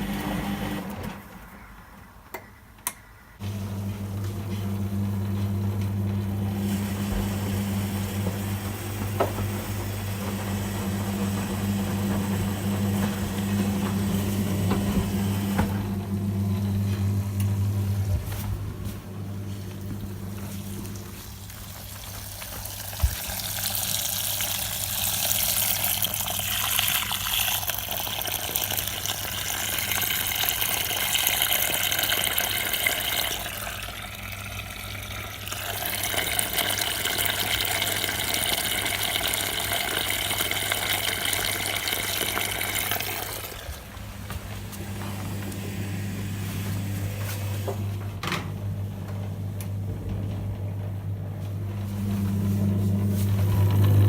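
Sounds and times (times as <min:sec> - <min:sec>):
water rushing into washing machine: 0:00.0 - 0:01.4, 0:03.4 - 0:50.5, 0:51.7 - 0:54.0
washing machine humming: 0:00.0 - 0:54.0.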